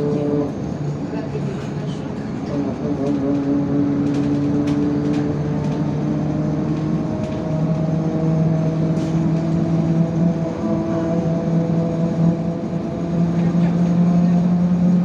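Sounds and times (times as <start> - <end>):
bus engine and drivetrain: 0.0 - 15.0.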